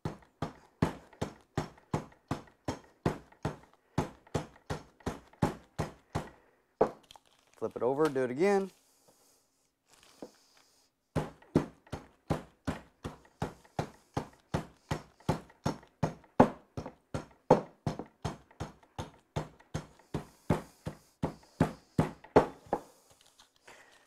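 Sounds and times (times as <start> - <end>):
rolling pin crushing cookies: 0.0 - 7.0, 10.0 - 24.0.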